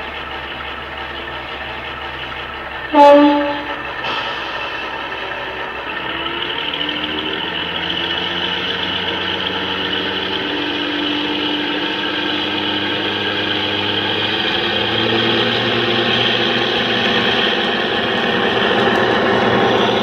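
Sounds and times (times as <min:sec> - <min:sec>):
model train diesel engine sound: 0:00.0 - 0:20.0.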